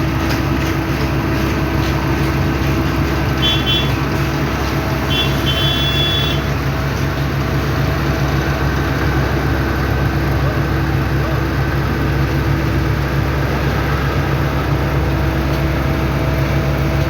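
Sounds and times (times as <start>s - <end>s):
diesel machinery droning: 0.0s - 17.0s.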